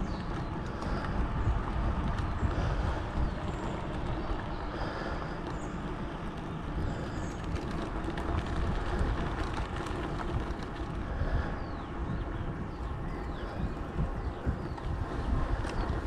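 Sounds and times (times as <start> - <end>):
bicycle tyre rumble: 0.0 - 16.0
bike rattles and clicks: 0.0 - 16.0
wind buffeting microphone: 0.0 - 16.0.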